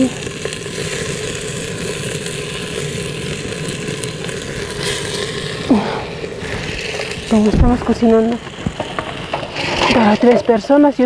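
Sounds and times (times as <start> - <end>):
rice sizzling in oil: 0.0 - 11.0.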